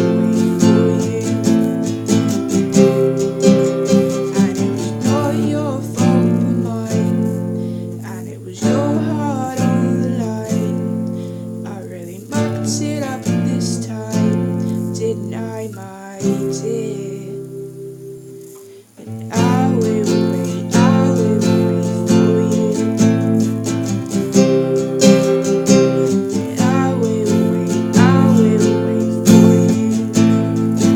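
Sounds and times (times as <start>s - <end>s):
woman singing: 0.0s - 17.8s, 19.0s - 30.9s
acoustic guitar strumming: 0.0s - 30.9s.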